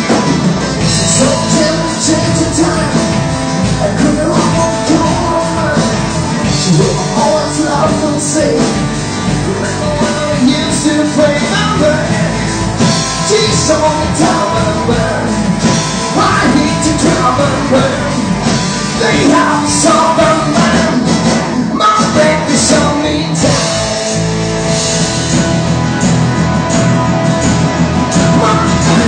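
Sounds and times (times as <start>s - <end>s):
person singing: 0.0s - 24.2s, 27.1s - 29.0s
electric guitar: 0.0s - 29.0s.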